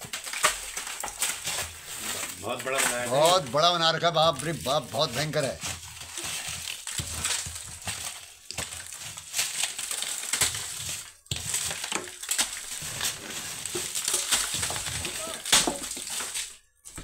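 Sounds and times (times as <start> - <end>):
plank crunching wasp nest: 0.0 - 16.6.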